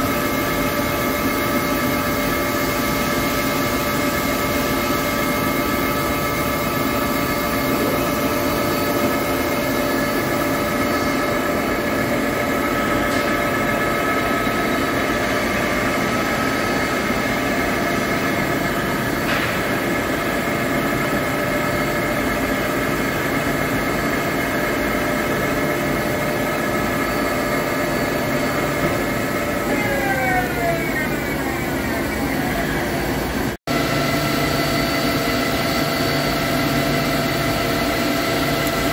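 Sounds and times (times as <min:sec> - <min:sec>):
lathe spindle whine: 0:00.0 - 0:38.9.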